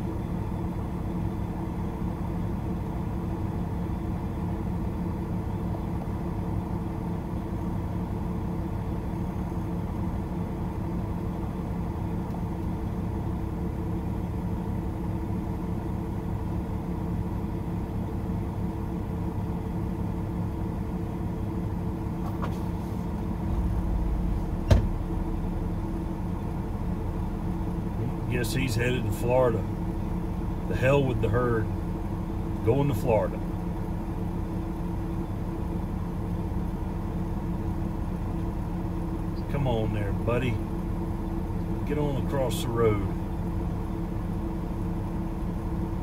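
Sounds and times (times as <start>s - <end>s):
truck diesel engine humming: 0.0s - 46.0s.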